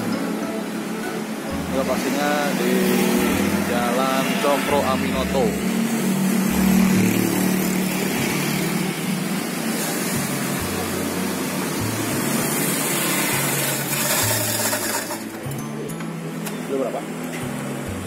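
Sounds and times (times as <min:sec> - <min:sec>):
passing car and motorbike engines: 0:00.0 - 0:15.6.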